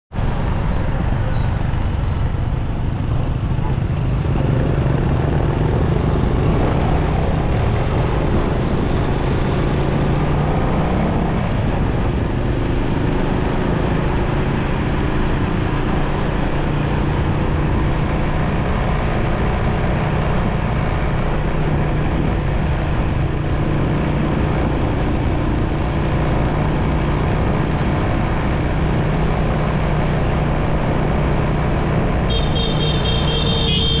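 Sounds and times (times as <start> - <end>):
road traffic: 0.1 - 34.0
motorcycle engine running: 0.6 - 34.0.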